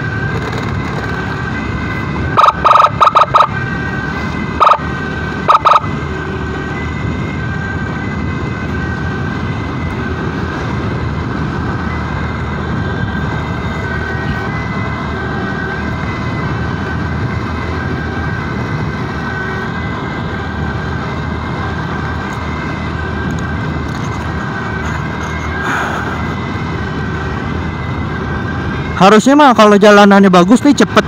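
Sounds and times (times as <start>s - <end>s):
ambulance siren: 0.0s - 31.0s
wind and road noise: 0.0s - 31.0s.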